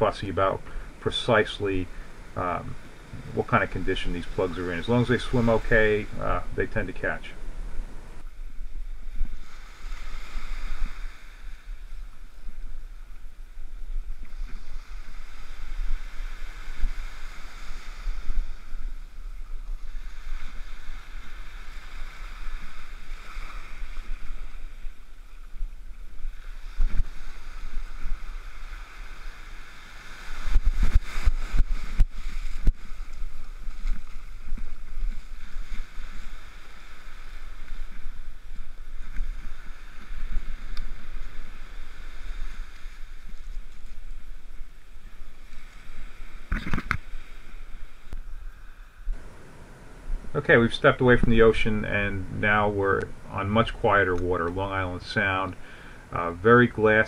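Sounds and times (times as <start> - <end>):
surf waves washing on beach: 0.0 - 57.0
wind on microphone: 1.8 - 55.7.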